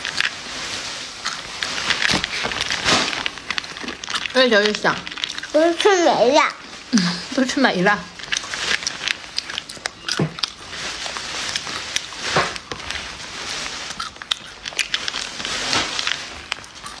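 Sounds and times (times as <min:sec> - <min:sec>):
fingers rummaging through nuts in tin: 0:00.0 - 0:06.3, 0:07.4 - 0:17.0
crisp chewing crunches: 0:00.0 - 0:17.0.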